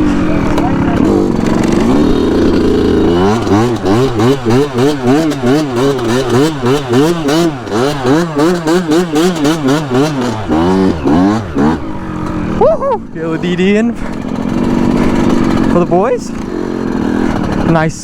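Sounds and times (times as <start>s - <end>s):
two-stroke engine revving: 0.0s - 18.0s.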